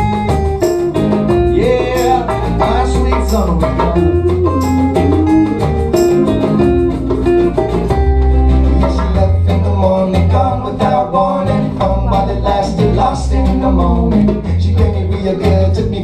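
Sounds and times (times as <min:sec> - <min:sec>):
acoustic band playing: 0:00.0 - 0:16.0
strummed acoustic guitars: 0:00.0 - 0:16.0.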